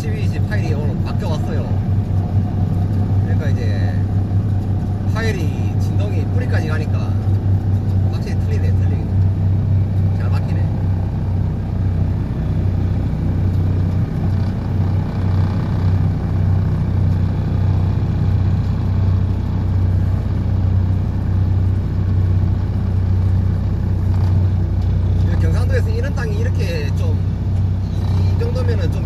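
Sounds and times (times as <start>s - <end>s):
vibratory pile hammer deep hum: 0.0s - 29.0s.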